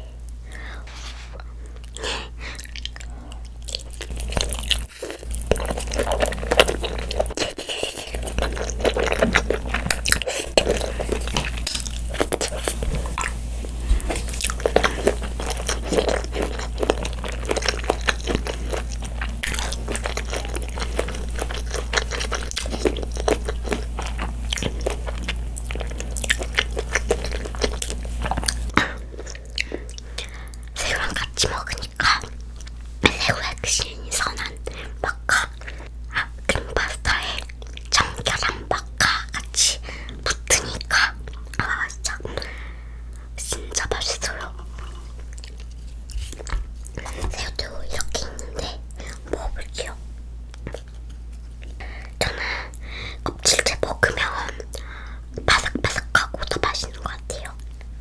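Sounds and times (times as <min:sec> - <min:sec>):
close chewing food: 0:01.4 - 0:58.0.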